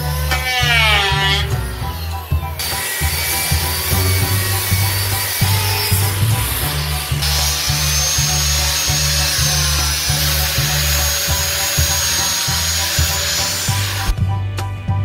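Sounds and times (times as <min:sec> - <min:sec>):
angle grinder sanding wood: 0:00.0 - 0:14.2
background music with beat: 0:00.0 - 0:15.0.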